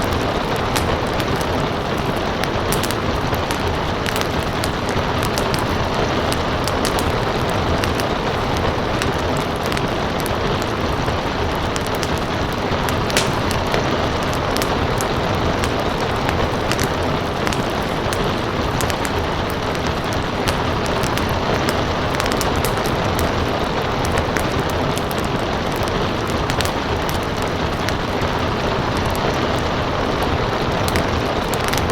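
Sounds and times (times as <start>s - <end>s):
steady rain hiss: 0.0s - 31.9s
wood fire crackling: 0.0s - 31.9s.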